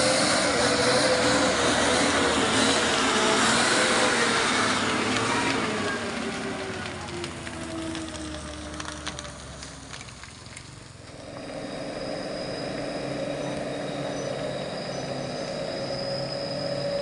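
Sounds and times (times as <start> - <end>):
truck diesel engine whining: 0.0 - 17.0.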